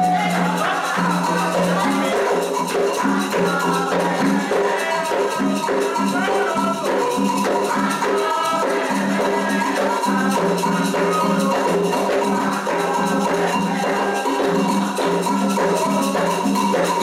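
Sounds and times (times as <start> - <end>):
hand drums playing: 0.0 - 17.0
shaken rattle: 0.0 - 17.0
voices singing: 0.0 - 17.0.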